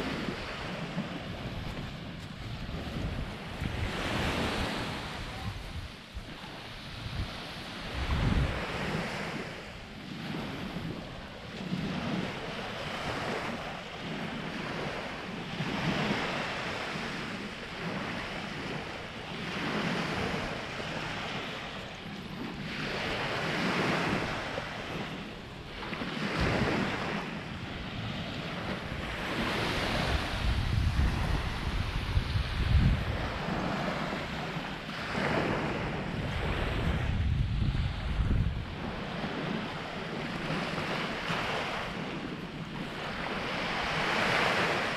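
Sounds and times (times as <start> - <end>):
small waves washing onto beach: 0.0 - 44.9
wind buffeting microphone: 0.0 - 44.9.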